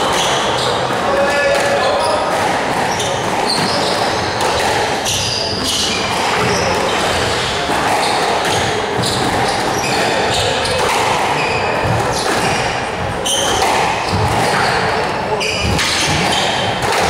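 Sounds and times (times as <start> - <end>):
shoes squeaking on wooden floor: 0.0 - 17.0
squash ball hitting racquets and walls: 0.0 - 17.0.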